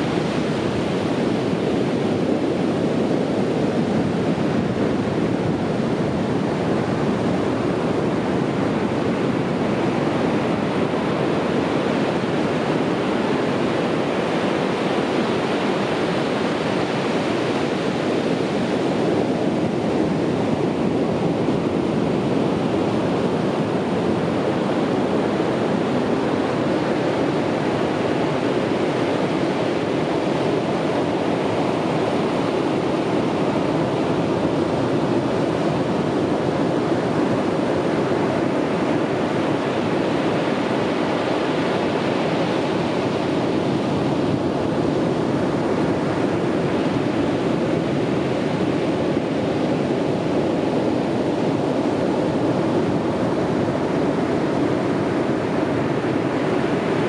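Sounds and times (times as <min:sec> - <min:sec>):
ocean surf washing on beach: 0:00.0 - 0:57.0.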